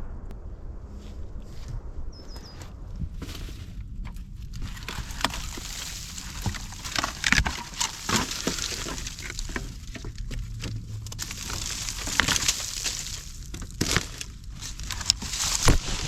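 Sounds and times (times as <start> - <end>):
dry leaves and twigs crackling: 1.0 - 16.0.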